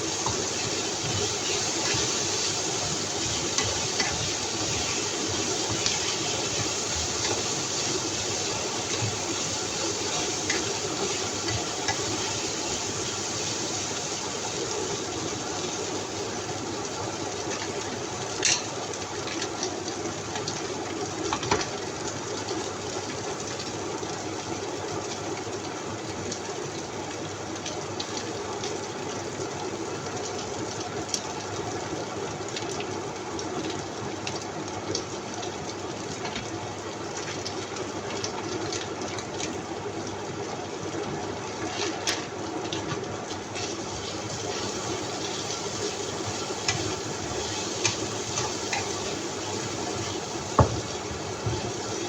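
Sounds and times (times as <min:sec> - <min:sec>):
food sizzling in a pan: 0:00.0 - 0:32.5, 0:33.2 - 0:52.0.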